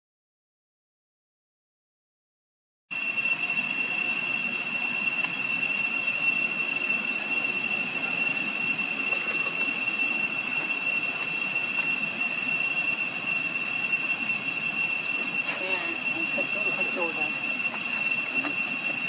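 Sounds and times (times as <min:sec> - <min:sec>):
cicadas droning: 0:02.9 - 0:19.0.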